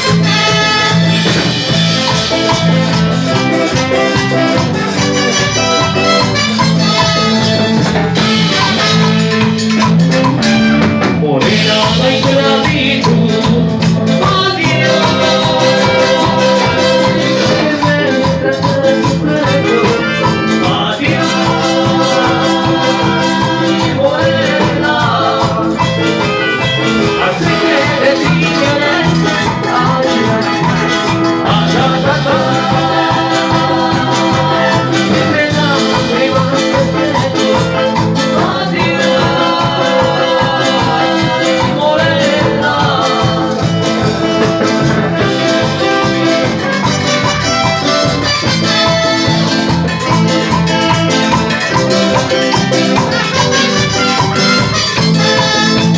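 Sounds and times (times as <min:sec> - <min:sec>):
latin dance orchestra playing: 0:00.0 - 0:55.9.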